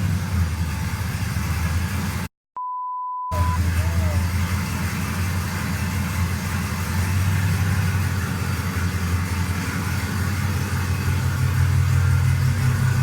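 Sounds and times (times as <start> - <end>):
vehicle engine humming: 0.0 - 2.3, 3.3 - 13.0.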